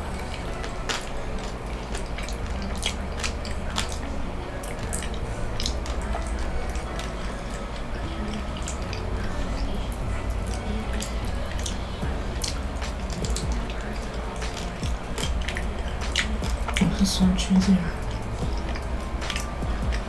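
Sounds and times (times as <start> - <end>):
close chewing mouth sounds: 0.0 - 20.0.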